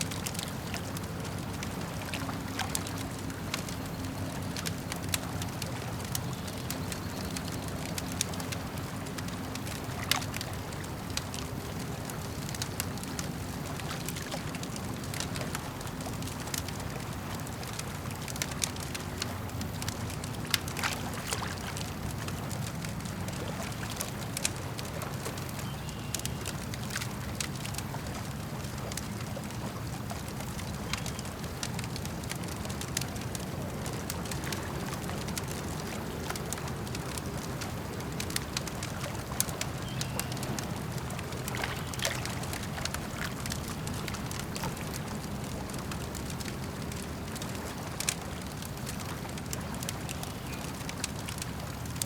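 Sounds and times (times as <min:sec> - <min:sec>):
campfire crackling and popping: 0:00.0 - 0:52.0
lake water lapping: 0:00.0 - 0:52.0.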